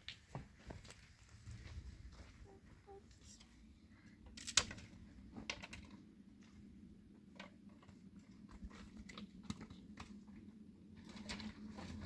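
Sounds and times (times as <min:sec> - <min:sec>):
faint steady hum: 0:00.6 - 0:12.0.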